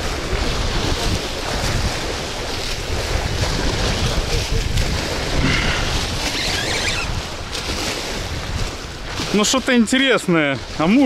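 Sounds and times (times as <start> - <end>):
small waves washing on concrete: 0.0 - 11.0
wind buffeting microphone: 0.0 - 11.0.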